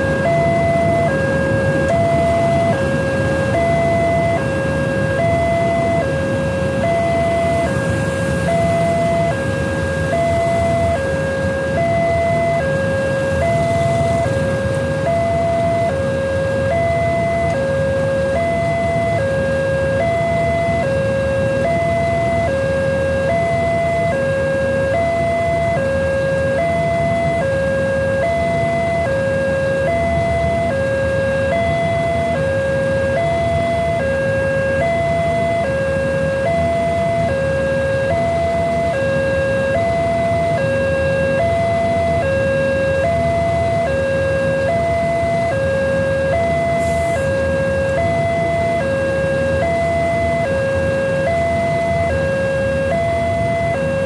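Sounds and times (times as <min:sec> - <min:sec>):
two-tone level crossing alarm: 0:00.0 - 0:54.0.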